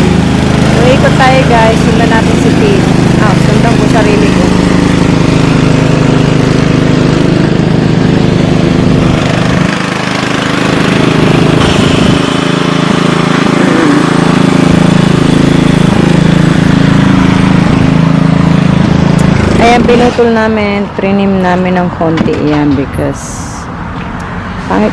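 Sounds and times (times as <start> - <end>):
lawn mower engine running: 0.0 - 24.9.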